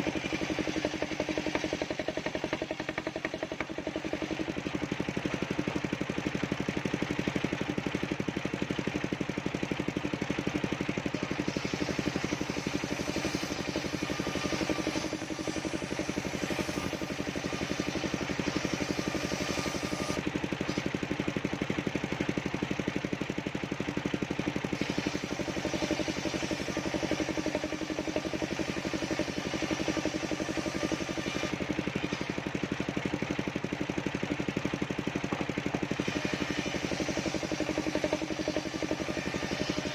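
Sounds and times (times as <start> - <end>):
saw blade hiss cutting wood: 0.0 - 8.9, 10.1 - 21.0, 24.4 - 33.4, 35.3 - 39.9
saw engine running: 0.0 - 39.9.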